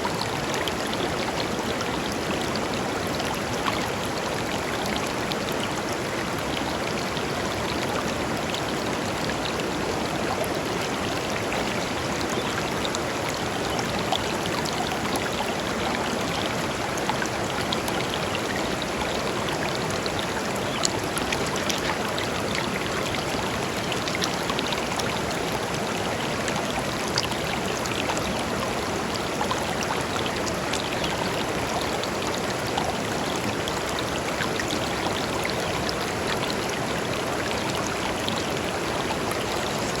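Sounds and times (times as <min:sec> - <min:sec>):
river flowing over stones: 0:00.0 - 0:40.0.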